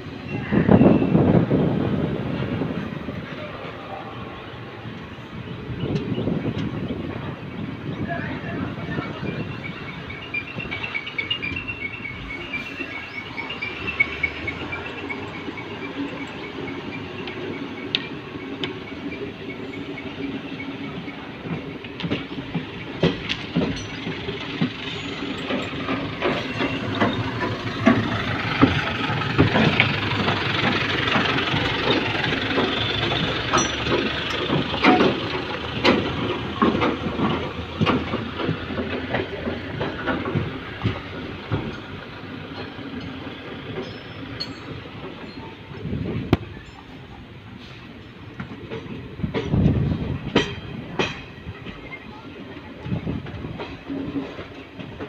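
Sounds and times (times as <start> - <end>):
train rolling noise: 0.0 - 55.0
wheels clacking on rails: 0.0 - 55.0.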